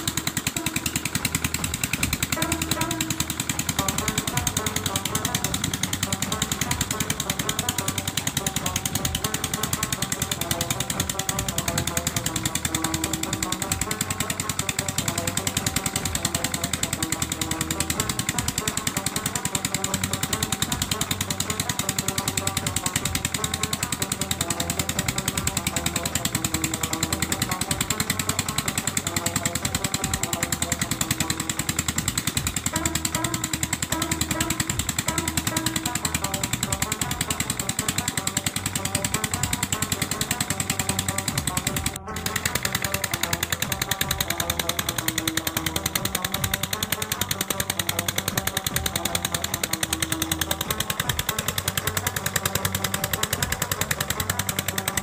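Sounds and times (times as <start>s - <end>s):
diesel engine pounding: 0.0s - 55.0s.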